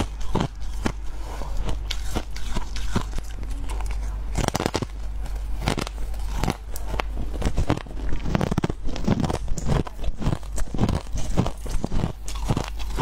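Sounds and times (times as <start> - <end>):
frost being chewed crunching: 0.0 - 13.0.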